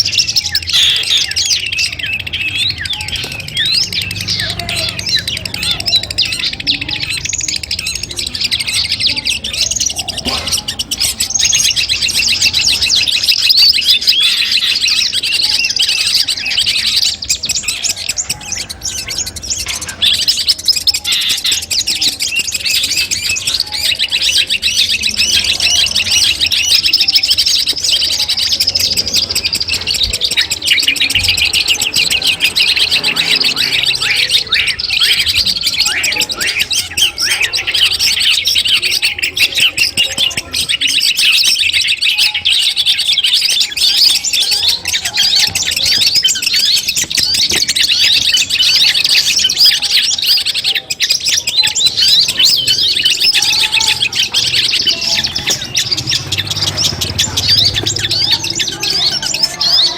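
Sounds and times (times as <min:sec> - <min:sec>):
bird singing high chattering notes: 0:00.0 - 0:59.9.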